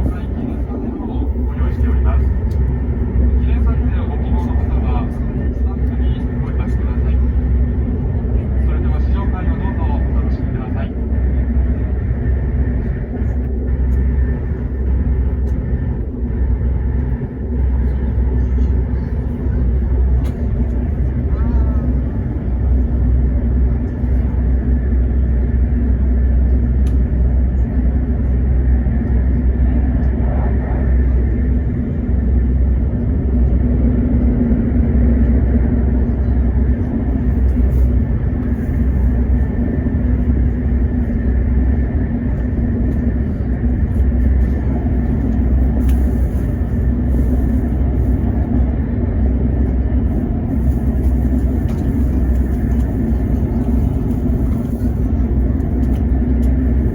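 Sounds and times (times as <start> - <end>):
train running rumble: 0.0 - 56.9.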